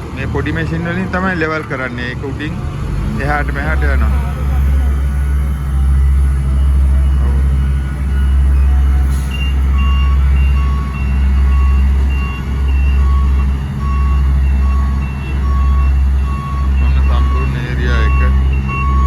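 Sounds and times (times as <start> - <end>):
heavy diesel engines rumbling: 0.0 - 19.0
reversing alarm beeping: 3.2 - 19.0.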